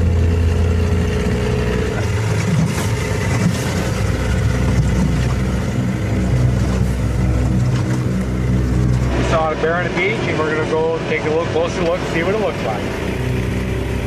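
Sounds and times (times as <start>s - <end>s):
motorboat engine running: 0.0s - 14.0s
rushing water: 0.0s - 14.0s.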